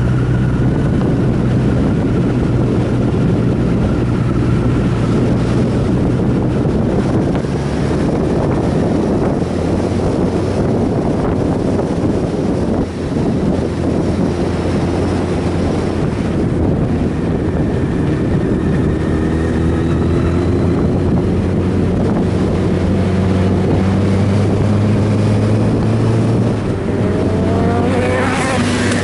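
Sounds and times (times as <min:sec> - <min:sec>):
motorcycle engine cruising: 0:00.0 - 0:29.0
wind noise on microphone: 0:00.0 - 0:29.0.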